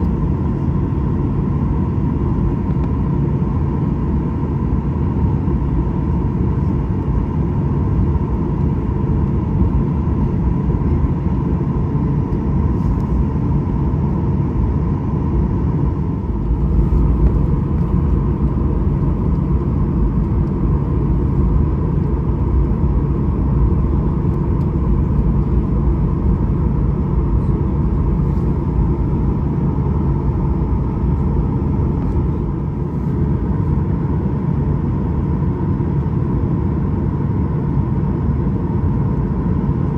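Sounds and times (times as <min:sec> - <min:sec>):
airliner cabin engine rumble: 0:00.0 - 0:39.9
thin steady whine: 0:00.0 - 0:39.9.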